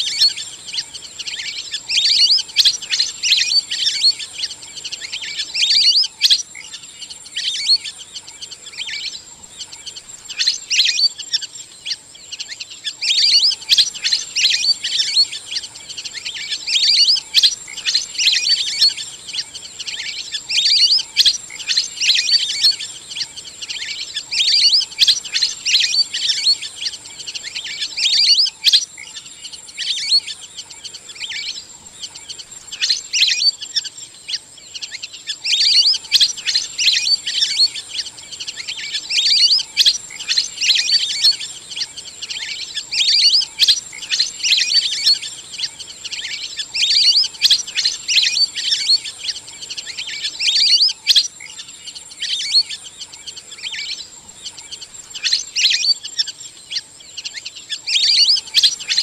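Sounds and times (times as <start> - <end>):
ducks whistling calls: 0.0 - 59.0.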